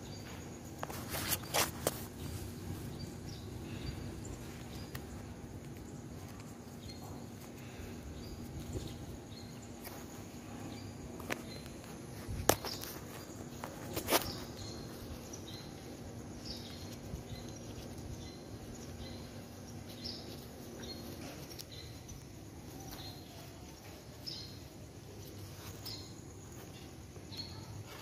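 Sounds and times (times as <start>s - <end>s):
faint steady hum: 0.0s - 28.0s
small birds chirping: 0.0s - 28.0s.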